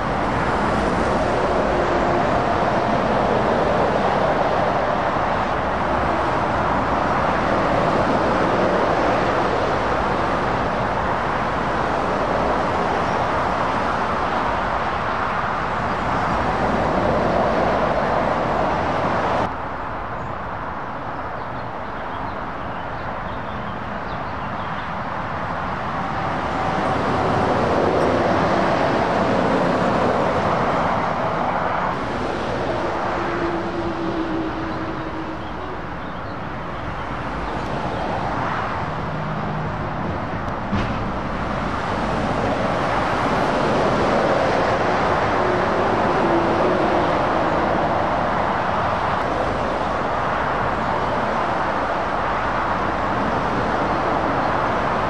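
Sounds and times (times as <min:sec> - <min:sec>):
lorries passing: 0:00.0 - 0:55.0.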